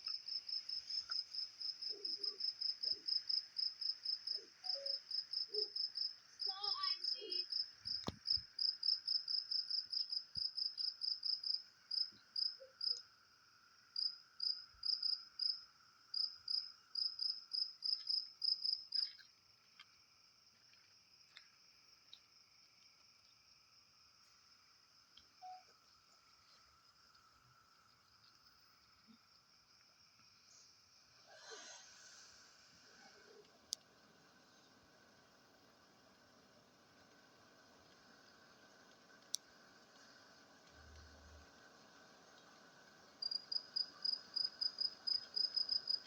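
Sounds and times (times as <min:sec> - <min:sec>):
cricket chirping: 0:00.0 - 0:46.0.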